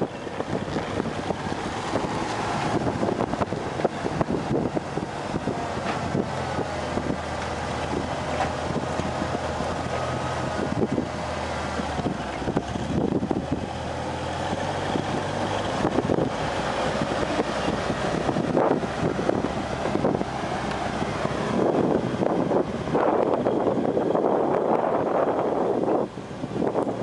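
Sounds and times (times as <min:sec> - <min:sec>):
forklift engine running: 0:00.0 - 0:27.0
wind on microphone: 0:00.0 - 0:27.0.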